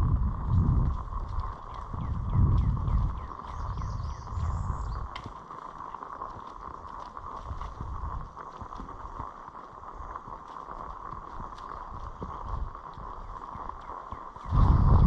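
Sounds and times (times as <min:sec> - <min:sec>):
wind buffeting microphone: 0:00.0 - 0:05.5, 0:06.6 - 0:15.0
faint clicks and ticks: 0:00.0 - 0:15.0.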